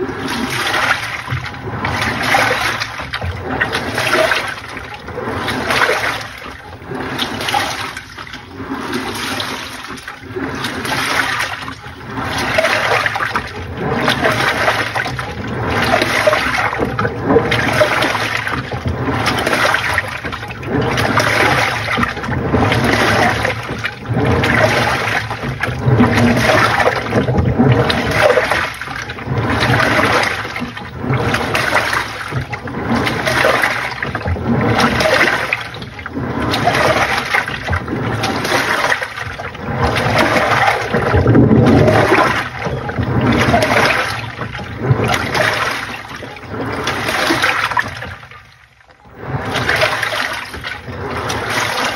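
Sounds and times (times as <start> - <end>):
washing machine water sloshing: 0.0 - 51.9.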